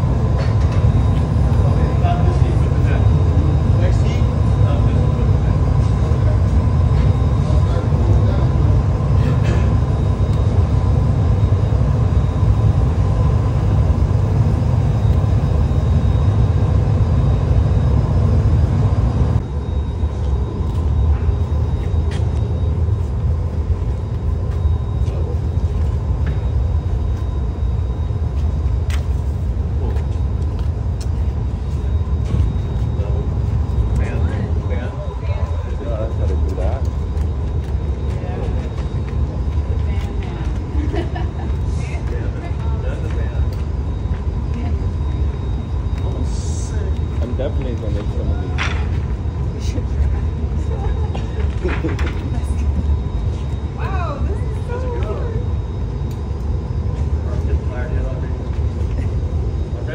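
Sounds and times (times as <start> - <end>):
gas furnaces roaring: 0.0 - 59.9
thin steady hum: 0.0 - 59.9.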